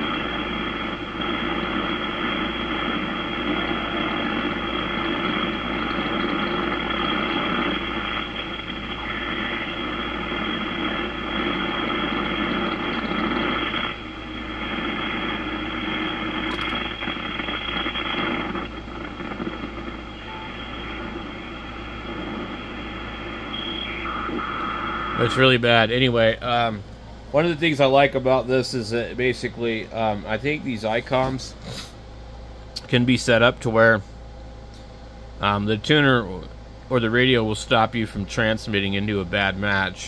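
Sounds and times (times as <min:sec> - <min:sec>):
radio receiver static hiss: 0:00.0 - 0:40.0.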